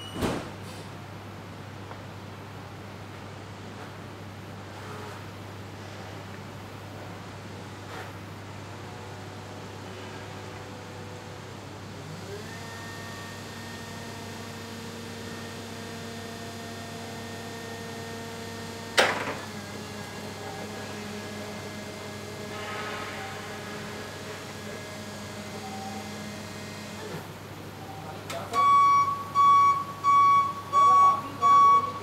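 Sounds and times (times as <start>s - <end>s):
constant electrical hum: 0.0s - 32.0s.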